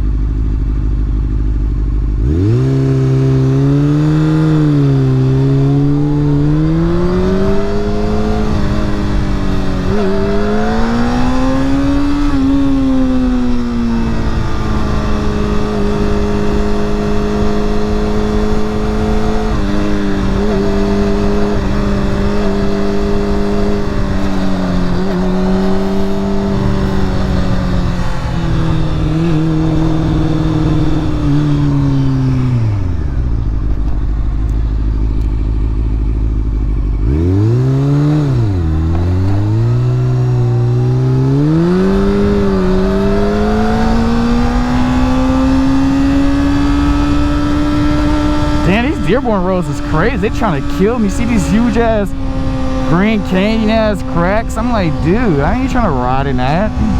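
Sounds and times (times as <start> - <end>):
motorcycle engine shifting gears: 0.0 - 56.9.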